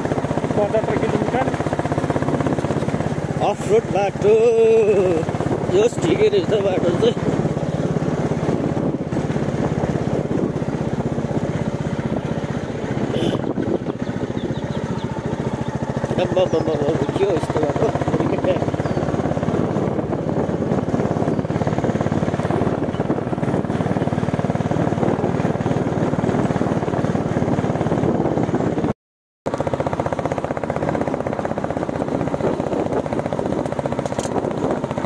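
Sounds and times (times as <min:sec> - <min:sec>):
motorcycle engine running under load: 0:00.0 - 0:35.0.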